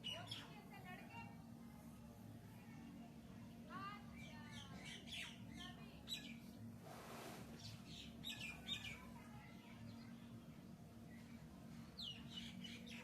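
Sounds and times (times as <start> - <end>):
faint birds chirping: 0.0 - 13.0
steady low hum: 0.0 - 13.0.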